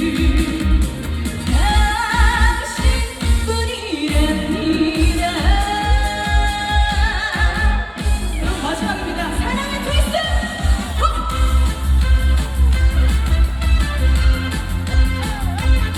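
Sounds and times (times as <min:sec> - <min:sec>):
pop music over loudspeakers: 0:00.0 - 0:15.9.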